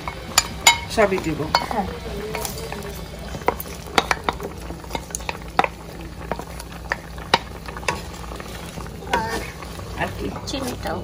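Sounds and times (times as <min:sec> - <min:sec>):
water bubbling in a pot: 0:00.0 - 0:11.0.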